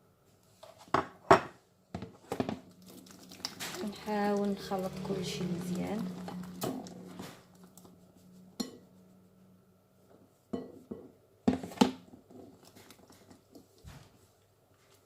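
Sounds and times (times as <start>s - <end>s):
faint steady hum: 1.6s - 15.0s.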